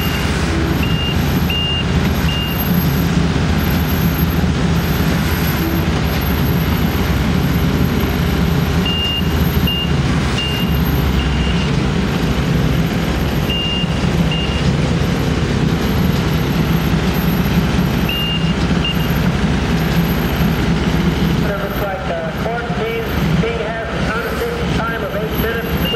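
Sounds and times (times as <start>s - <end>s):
reversing alarm beeping: 0.0s - 11.8s, 12.8s - 25.9s
machine engines running: 0.0s - 25.9s.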